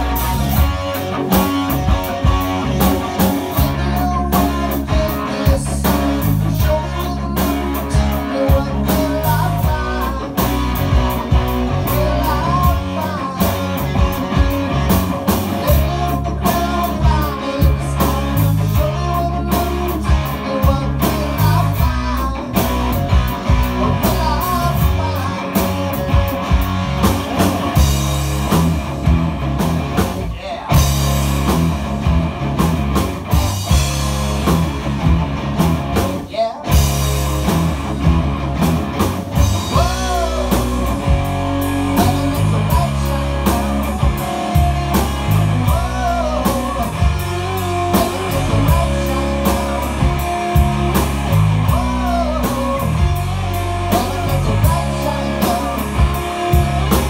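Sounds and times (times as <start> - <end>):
rock band playing: 0.0 - 57.0
steady drum beat: 0.0 - 57.0.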